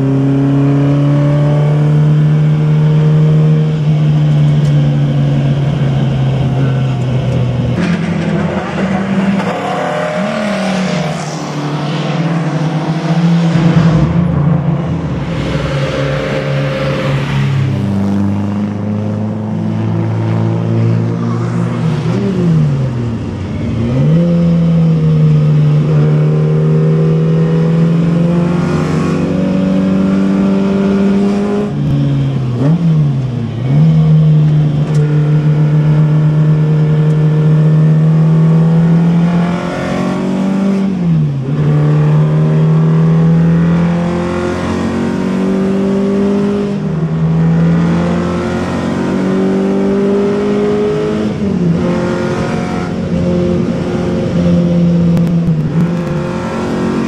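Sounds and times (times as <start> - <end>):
race car engine at high revs: 0.0 - 57.0
wind and road noise: 0.0 - 57.0.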